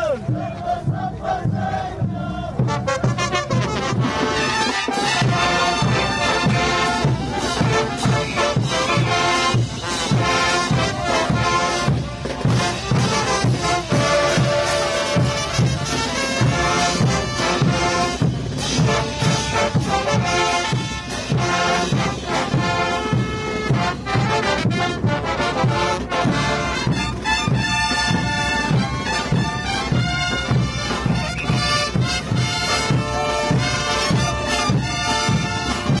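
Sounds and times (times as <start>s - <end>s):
brass and wind band melody: 0.0s - 36.0s
steady drum beat: 0.0s - 36.0s.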